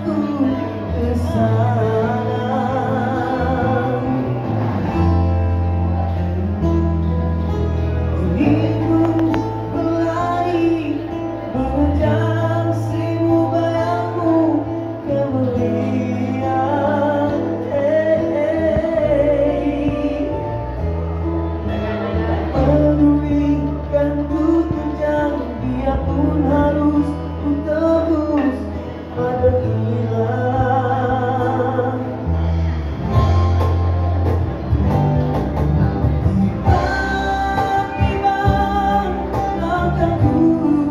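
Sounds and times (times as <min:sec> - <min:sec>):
man singing into a microphone: 0:00.0 - 0:05.3, 0:08.0 - 0:33.3, 0:36.2 - 0:40.9
bass guitar: 0:00.0 - 0:40.9
electric guitar: 0:00.0 - 0:40.9.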